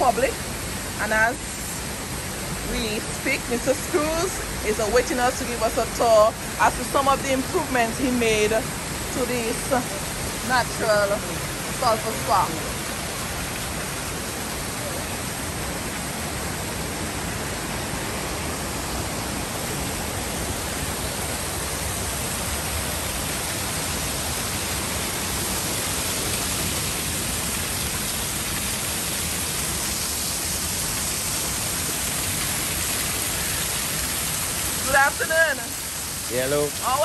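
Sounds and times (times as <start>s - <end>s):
waterfall onto rocks: 0.0s - 37.0s.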